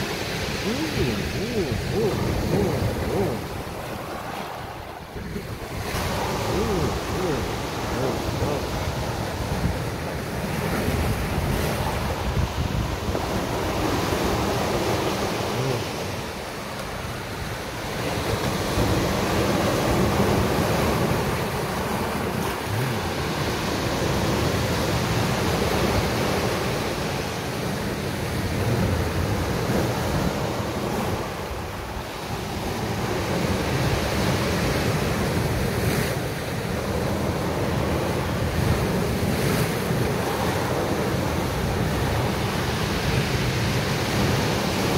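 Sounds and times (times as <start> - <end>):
surf breaking on a beach: 0.0 - 44.9.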